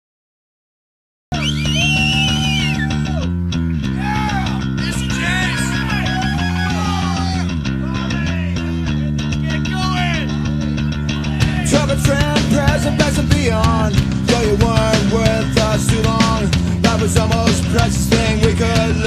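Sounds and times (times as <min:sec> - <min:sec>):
bass guitar: 0:01.3 - 0:19.0
rock music with guitar: 0:01.4 - 0:19.0.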